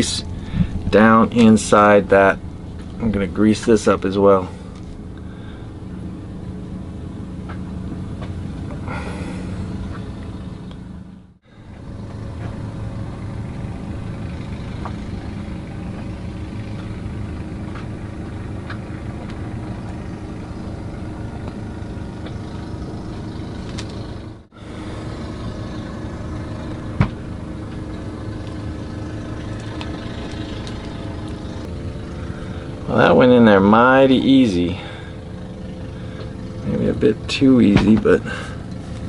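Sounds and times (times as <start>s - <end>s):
engine-like drone: 0.0s - 39.0s.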